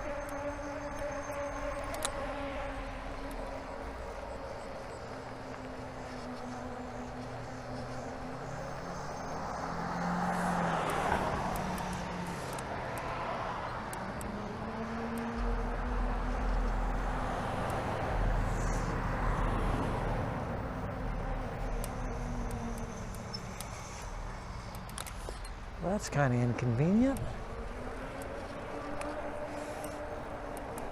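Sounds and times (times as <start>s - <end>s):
electric motor whine: 0.0s - 30.9s.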